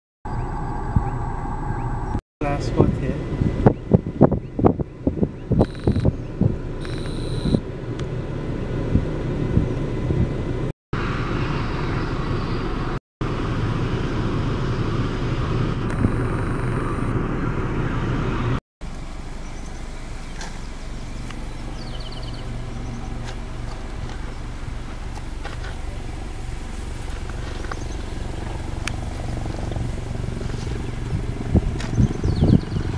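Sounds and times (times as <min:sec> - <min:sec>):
distant helicopter hum: 0:00.3 - 0:32.9
outdoor rumble: 0:00.3 - 0:32.9.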